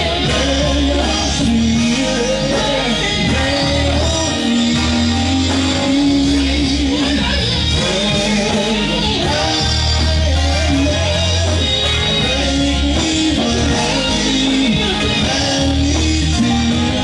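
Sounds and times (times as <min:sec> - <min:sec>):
guitar: 0:00.0 - 0:17.0
steady bass line: 0:00.0 - 0:17.0.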